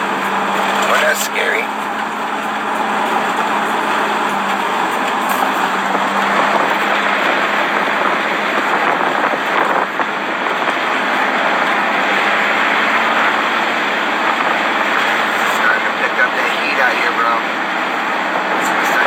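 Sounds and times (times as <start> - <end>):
faint low engine hum: 0.0 - 19.0
road and wind noise in car: 0.0 - 19.0.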